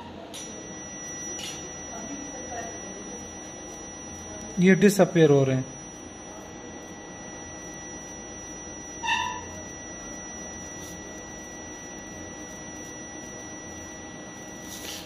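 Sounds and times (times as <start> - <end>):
faint high whine and hum: 0.0 - 15.0
short pitched beep: 0.0 - 15.0.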